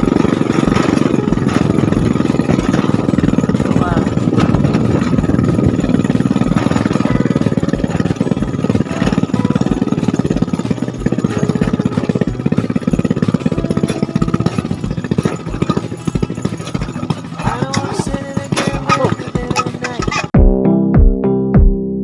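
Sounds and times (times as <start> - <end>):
motorcycle engine chugging: 0.0 - 20.4.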